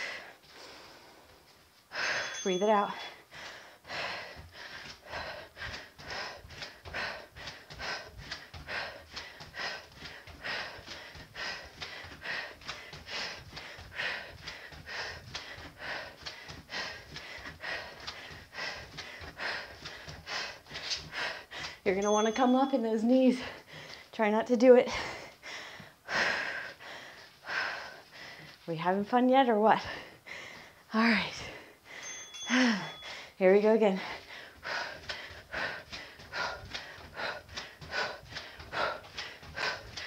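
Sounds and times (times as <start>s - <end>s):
woman breathing hard: 0.0s - 21.9s, 23.4s - 24.1s, 24.8s - 28.7s, 29.8s - 40.0s.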